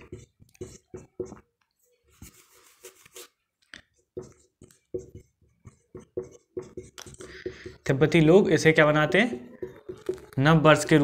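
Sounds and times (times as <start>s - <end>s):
marker scratching on whiteboard: 0.0s - 11.0s.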